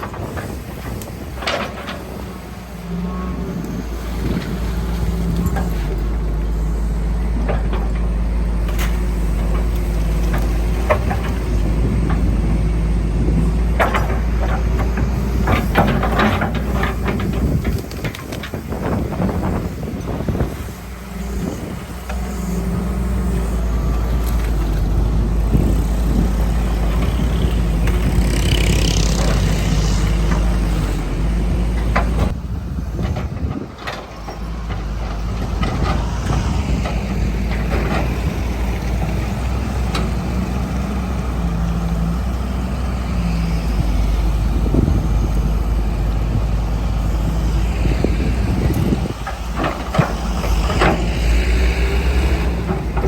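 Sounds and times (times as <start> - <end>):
excavator diesel engine running: 0.0 - 53.0
excavator digging knocks and scrapes: 0.0 - 53.0.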